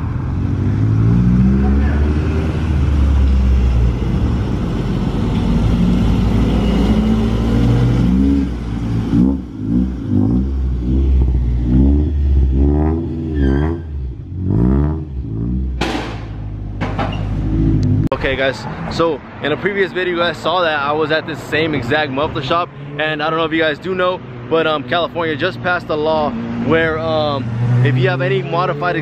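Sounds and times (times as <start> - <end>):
car engine revving: 0.0 - 19.2, 21.5 - 29.0.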